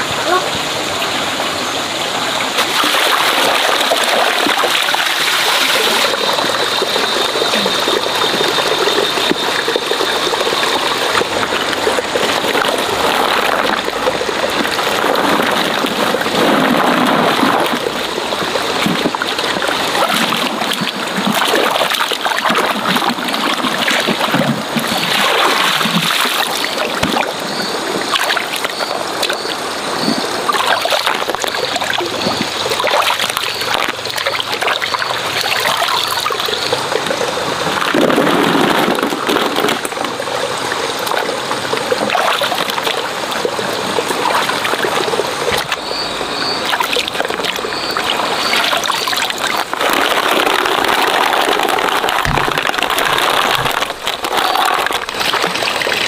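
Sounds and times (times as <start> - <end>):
stream running over stones: 0.0 - 56.0
water splashing: 0.0 - 56.0.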